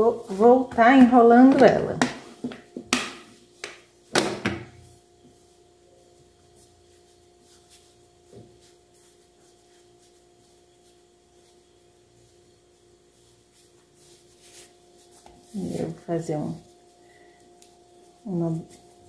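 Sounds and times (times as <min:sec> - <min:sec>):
hands rubbing dough: 0:00.0 - 0:04.1, 0:04.8 - 0:19.0
faint hum: 0:00.0 - 0:19.0.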